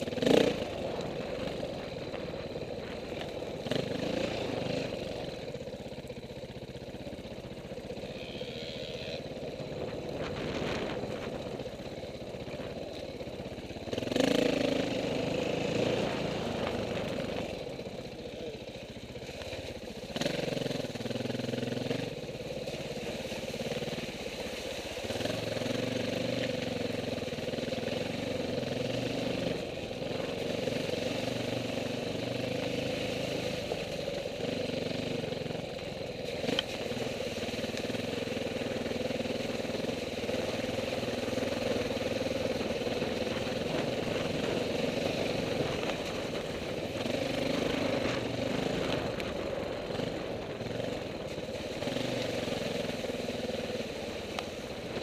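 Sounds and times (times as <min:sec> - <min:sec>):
dirt bike engines running: 0:00.0 - 0:55.0.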